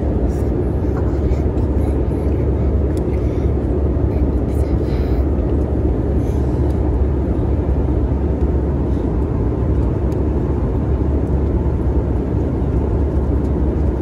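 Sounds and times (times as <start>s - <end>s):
airliner cabin noise: 0.0s - 14.0s.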